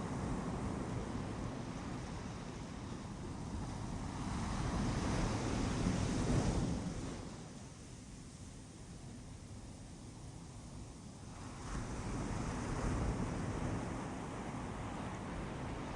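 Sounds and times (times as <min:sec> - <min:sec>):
ocean waves on a beach: 0:00.0 - 0:15.9.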